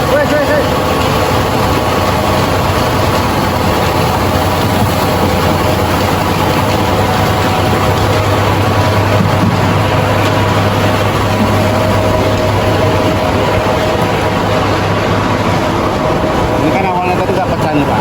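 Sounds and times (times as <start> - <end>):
rice milling machine drone: 0.0 - 18.0.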